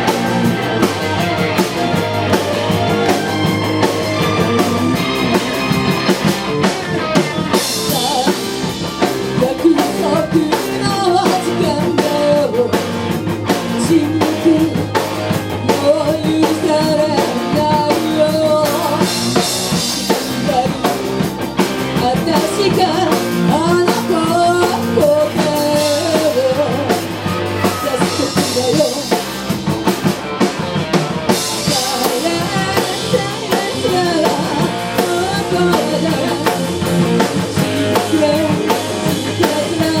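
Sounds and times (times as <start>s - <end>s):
bending guitar lead line: 0.0s - 40.0s
drum kit: 0.0s - 40.0s
electric guitars: 0.0s - 40.0s.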